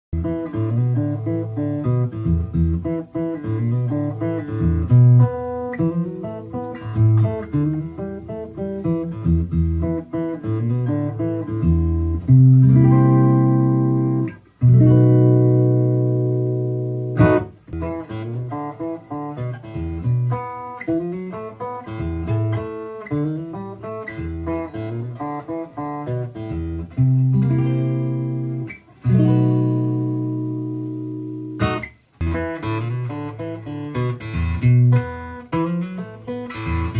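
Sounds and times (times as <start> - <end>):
solo guitar playing: 0.2 - 36.9.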